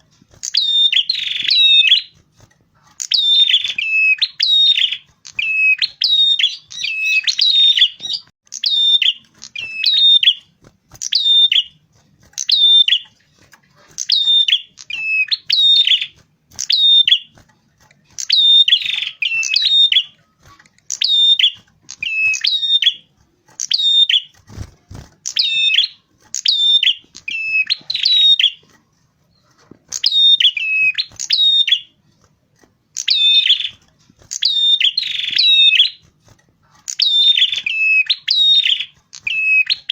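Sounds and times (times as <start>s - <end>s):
songbird chirping: 0.0s - 2.2s, 2.8s - 32.3s, 32.9s - 39.9s.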